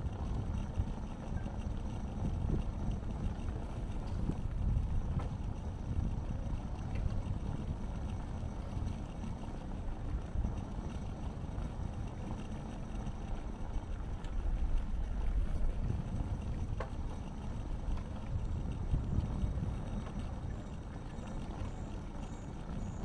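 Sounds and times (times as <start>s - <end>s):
bicycle road noise: 0.0s - 23.0s
wind rumble on microphone: 0.0s - 23.0s.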